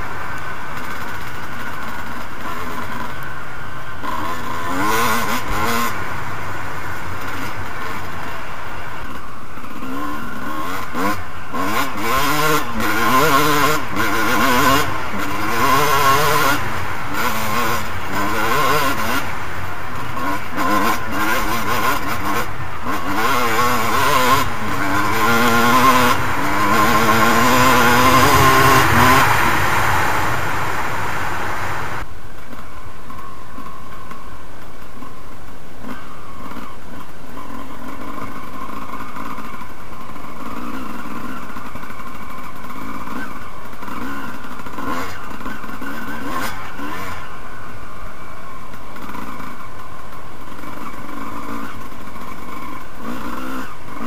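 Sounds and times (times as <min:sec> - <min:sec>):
motocross bike engine revving: 0:00.0 - 0:32.1, 0:35.7 - 0:54.0.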